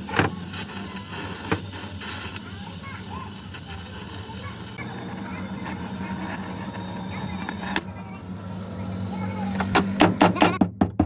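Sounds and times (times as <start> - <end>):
low mechanical hum: 0.0 - 10.7.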